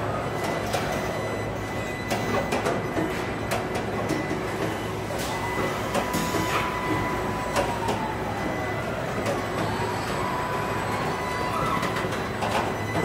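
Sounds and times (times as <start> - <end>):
industrial hum: 0.0 - 13.0
machine whine: 0.0 - 13.0
machinery clicks and clanks: 0.0 - 13.0.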